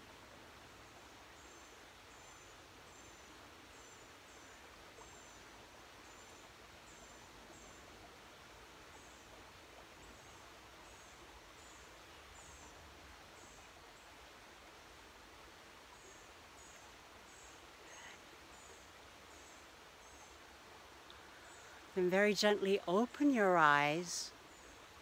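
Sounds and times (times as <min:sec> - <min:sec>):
creek flowing: 0:00.0 - 0:25.0.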